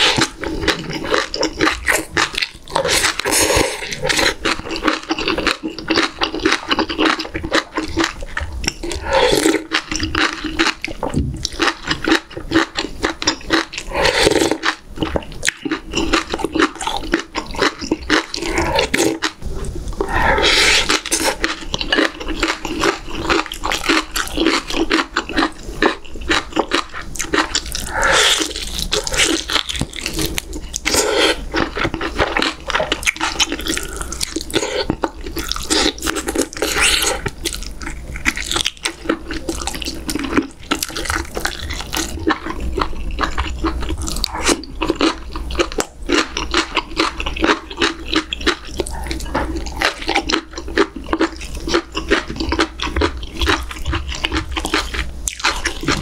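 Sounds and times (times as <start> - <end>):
wet chewing and slurping: 0.0 - 56.0.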